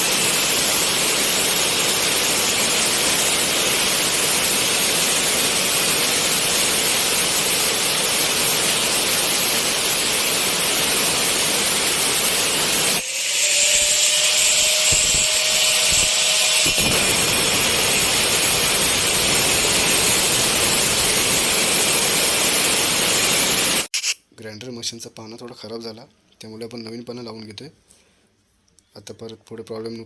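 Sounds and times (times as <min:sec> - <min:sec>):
angle grinder cutting: 0:00.0 - 0:24.2.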